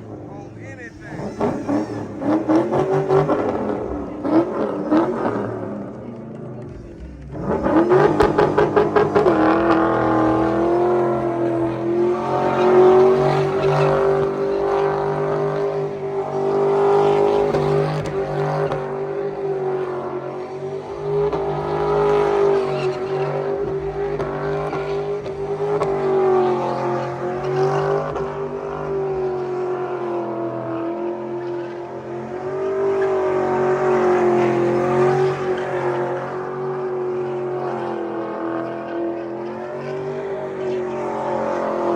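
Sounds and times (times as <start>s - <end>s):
vehicle engine revving: 0.0s - 41.9s.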